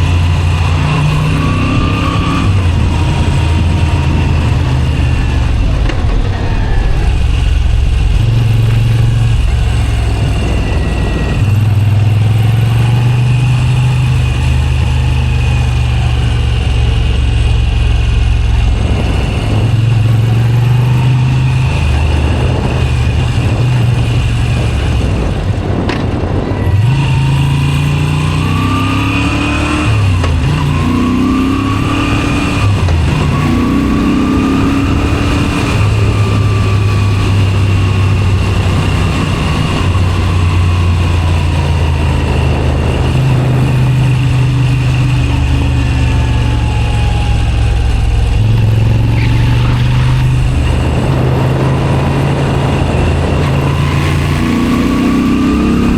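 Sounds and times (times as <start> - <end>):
motorcycle engine accelerating and cruising: 0.0 - 55.9.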